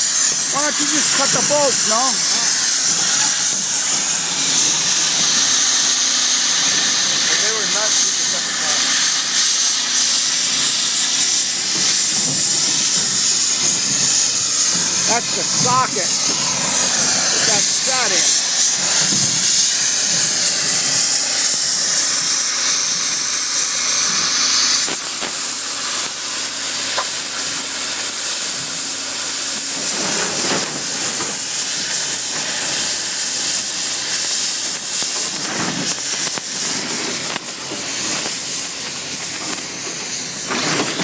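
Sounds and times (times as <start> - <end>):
cutting torch hissing: 0.0 - 41.0
crackles: 0.1 - 28.5, 29.2 - 41.0.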